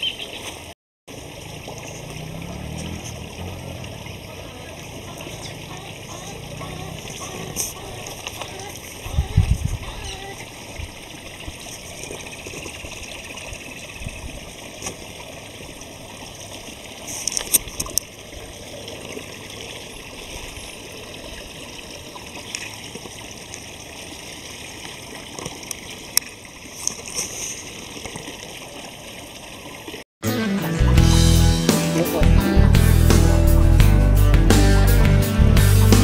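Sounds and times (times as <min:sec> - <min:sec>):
trickling water: 0:00.0 - 0:30.1.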